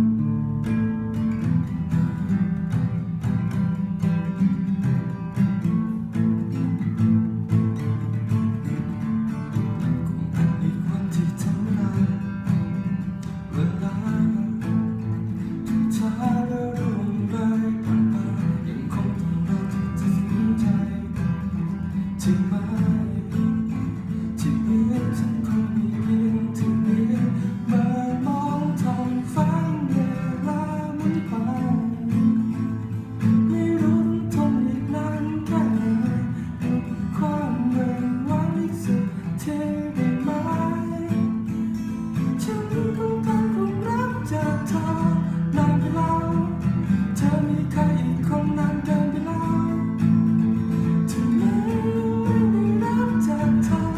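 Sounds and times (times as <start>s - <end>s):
acoustic guitar strumming and picking: 0.0s - 53.9s.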